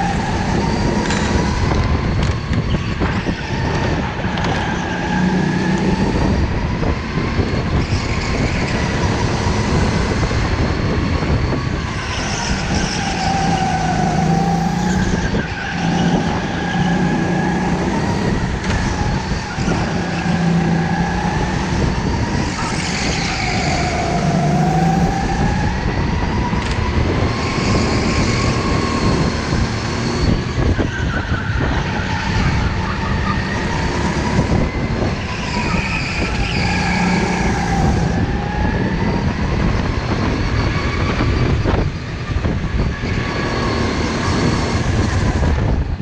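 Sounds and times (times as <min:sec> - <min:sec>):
go-kart engine revving: 0:00.0 - 0:45.7
wind: 0:00.0 - 0:46.0.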